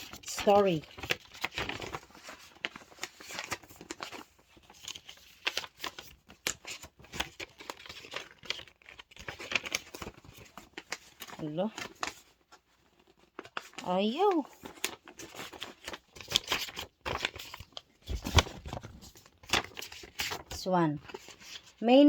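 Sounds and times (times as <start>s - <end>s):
paper and card rustling: 0.0s - 22.0s.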